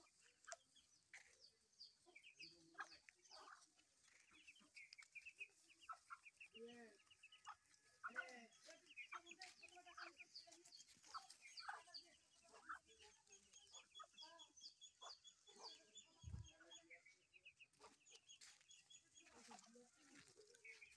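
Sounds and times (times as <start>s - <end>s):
chickens clucking: 0.0s - 20.9s
chicks peeping: 0.0s - 20.9s.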